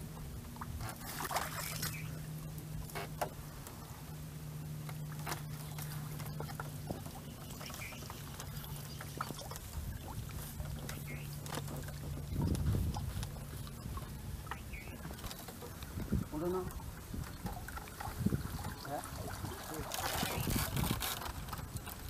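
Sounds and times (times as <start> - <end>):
net and bamboo frame rustling: 0.0 - 22.0
steady low hum: 0.0 - 22.0.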